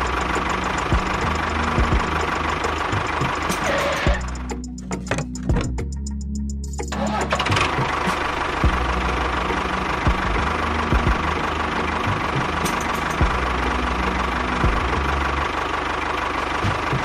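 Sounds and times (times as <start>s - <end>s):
engine rattling chug: 0.0s - 17.0s.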